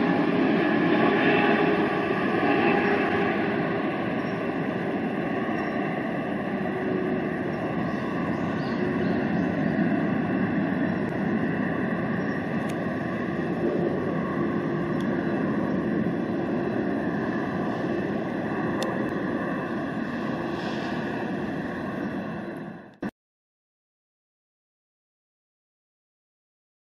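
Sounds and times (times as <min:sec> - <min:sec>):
jet engine noise: 0:00.0 - 0:23.1.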